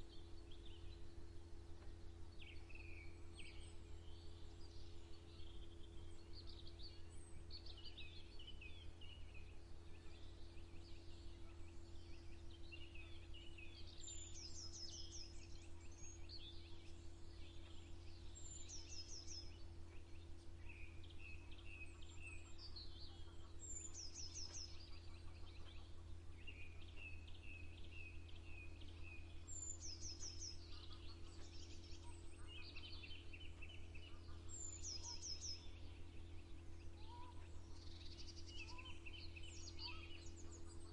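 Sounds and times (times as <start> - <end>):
songbirds singing: 0.0 - 40.9
steady low hum: 0.0 - 40.9.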